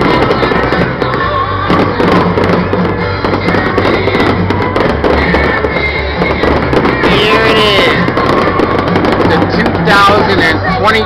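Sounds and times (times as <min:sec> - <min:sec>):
fireworks bangs and crackles: 0:00.0 - 0:11.0
loud music with bass line: 0:00.0 - 0:11.0.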